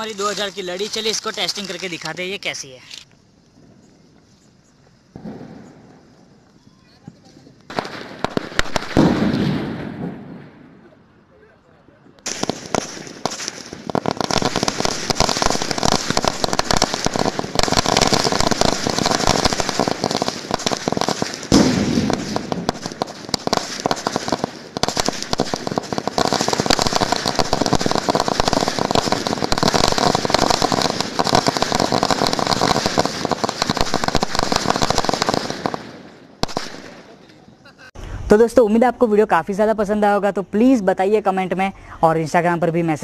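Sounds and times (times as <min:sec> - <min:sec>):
firecrackers crackling: 0:00.0 - 0:10.9, 0:12.2 - 0:37.9.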